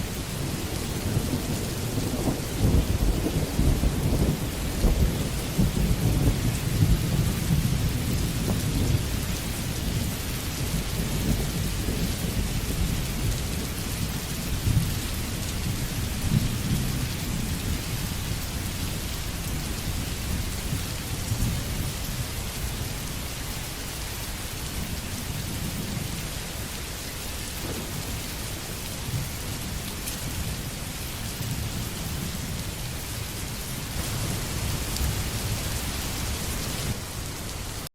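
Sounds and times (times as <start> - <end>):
low rolling thunder: 0.0 - 22.9, 24.8 - 37.8
steady rain falling: 0.0 - 37.9.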